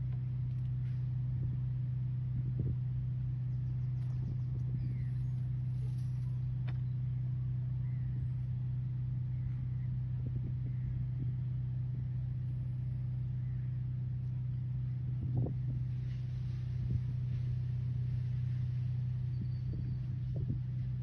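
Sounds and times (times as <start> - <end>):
low mechanical hum: 0.0 - 21.0
low rumble: 0.0 - 21.0.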